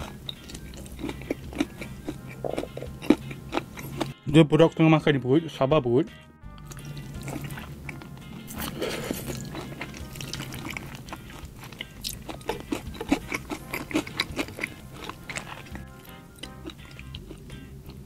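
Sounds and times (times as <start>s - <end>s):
crunchy chicken biting and chewing: 0.0s - 4.2s, 6.6s - 18.0s
soft background music: 0.0s - 18.0s.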